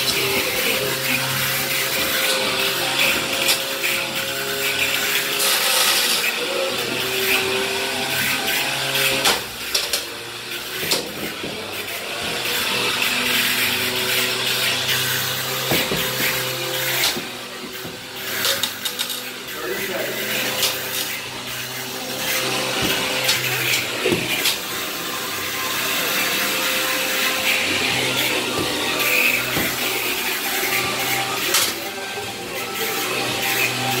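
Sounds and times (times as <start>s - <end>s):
electric motors whining: 0.0s - 34.0s.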